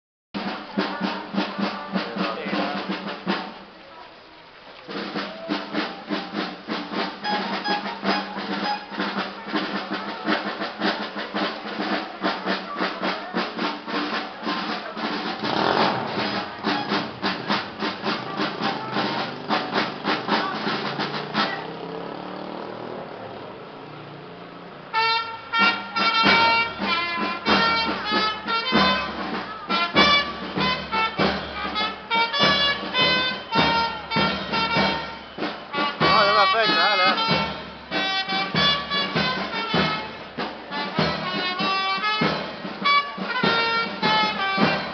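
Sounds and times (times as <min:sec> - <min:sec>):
fast drum beat: 0:00.4 - 0:03.8, 0:04.9 - 0:22.7, 0:24.2 - 0:44.9
brass band with drums: 0:00.4 - 0:44.9.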